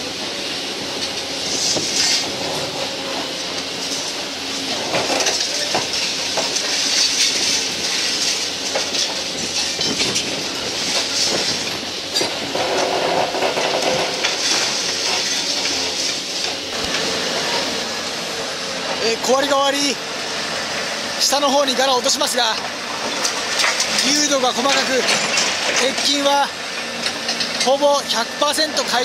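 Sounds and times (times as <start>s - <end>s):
excavator engine and hydraulic hiss: 0.0s - 29.0s
clanks of steel and concrete: 1.0s - 17.9s, 22.1s - 29.0s.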